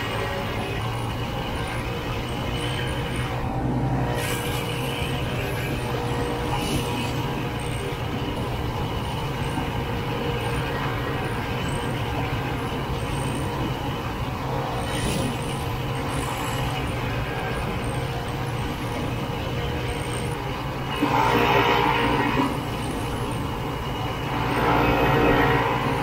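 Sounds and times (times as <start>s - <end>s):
snowmobile engine hum: 0.0s - 26.0s.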